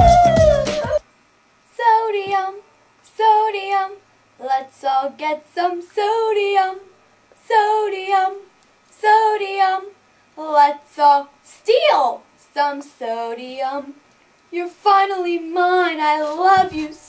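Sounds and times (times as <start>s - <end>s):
high voice singing unaccompanied: 0.0s - 1.0s, 1.7s - 17.0s.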